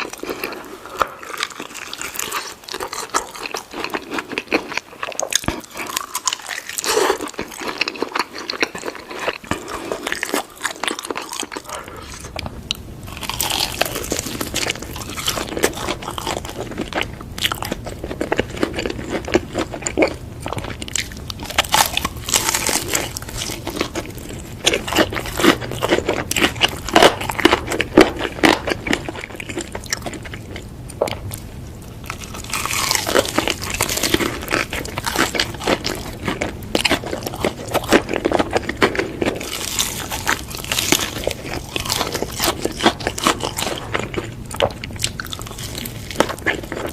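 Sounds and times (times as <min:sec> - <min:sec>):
crunchy chewing: 0:00.0 - 0:46.9.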